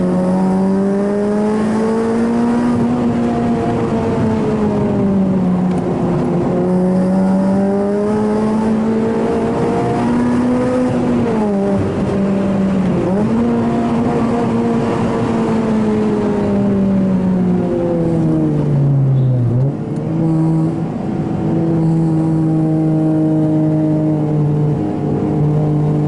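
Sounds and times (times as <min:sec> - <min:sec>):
car engine running hard: 0:00.0 - 0:26.0.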